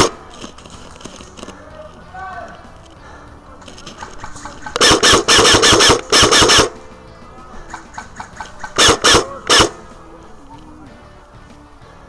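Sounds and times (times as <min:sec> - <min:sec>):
airsoft gun automatic fire: 0:00.0 - 0:01.6, 0:02.8 - 0:10.8.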